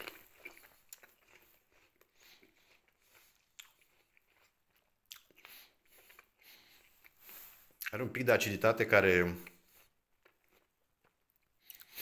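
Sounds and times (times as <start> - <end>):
person chewing crisp apple: 0.0 - 8.1, 9.4 - 12.0.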